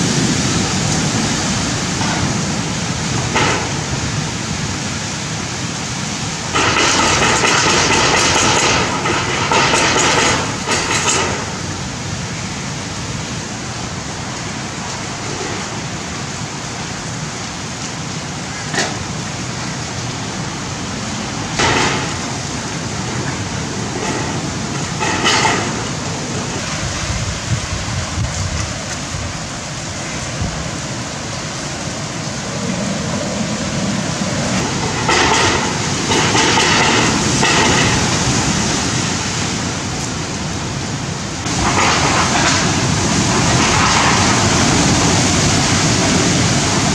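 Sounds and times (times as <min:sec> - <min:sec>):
heavy rain and wind: 0:00.0 - 0:46.9.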